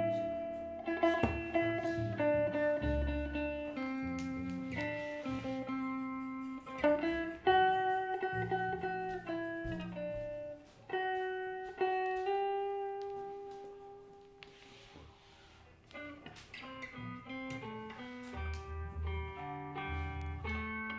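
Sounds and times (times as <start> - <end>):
guitar plucking single notes: 0.0 - 14.2, 16.0 - 20.9.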